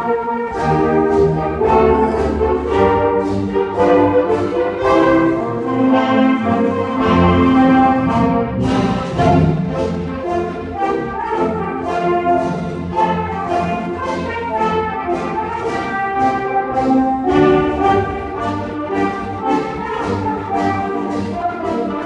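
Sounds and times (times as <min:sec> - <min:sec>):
concert band playing: 0:00.0 - 0:22.0.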